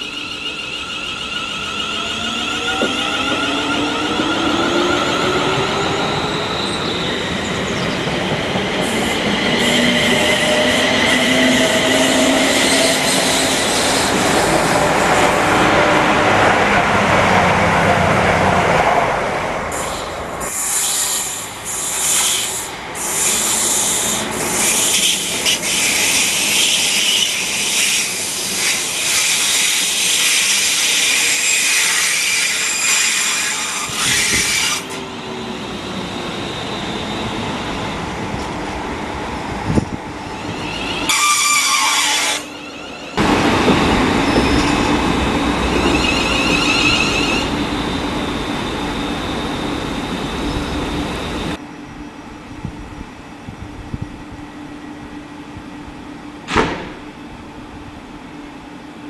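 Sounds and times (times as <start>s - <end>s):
train wheel and rail noise: 0.0s - 59.0s.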